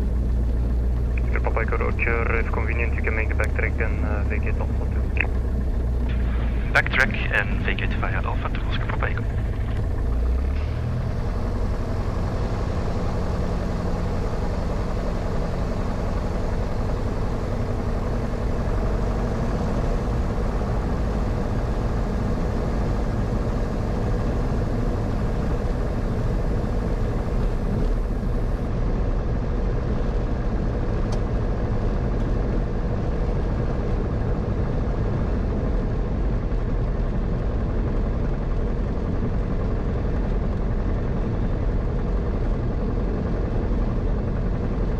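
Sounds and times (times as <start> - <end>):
light aircraft engine droning: 0.0 - 44.9.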